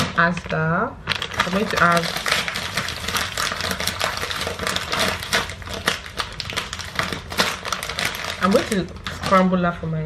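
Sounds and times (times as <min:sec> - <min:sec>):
plastic food packet crinkling: 0:00.0 - 0:09.7.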